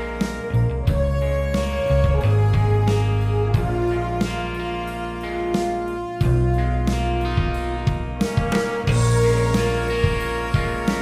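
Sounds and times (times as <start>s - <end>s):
guitar music with heavy bass: 0.0s - 11.0s.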